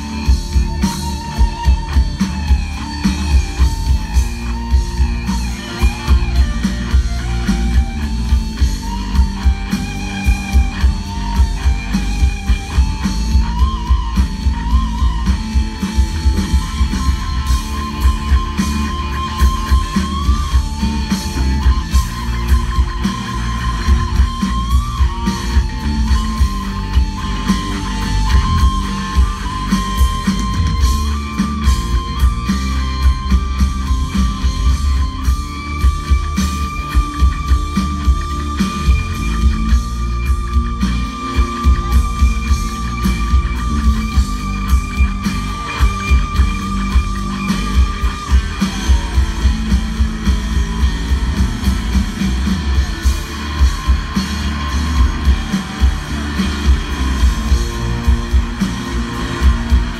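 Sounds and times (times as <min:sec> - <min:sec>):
electric guitar solo: 0:00.0 - 0:59.9
live rock band: 0:00.0 - 0:59.9.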